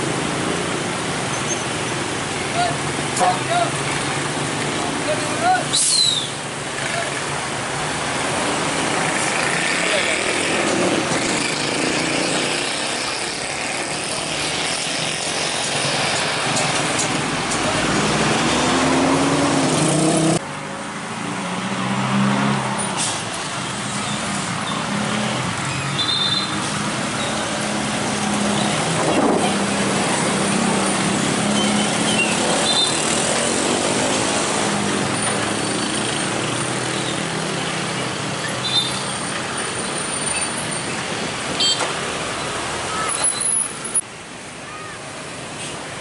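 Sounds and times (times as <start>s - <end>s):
cars and motorcycles passing: 0.0s - 46.0s.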